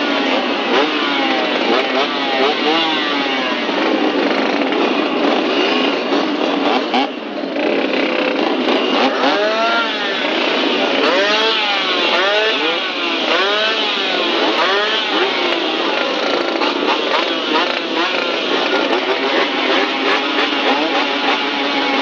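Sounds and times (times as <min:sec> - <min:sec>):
engines revving: 0:00.0 - 0:22.0
steady engine noise: 0:00.0 - 0:22.0.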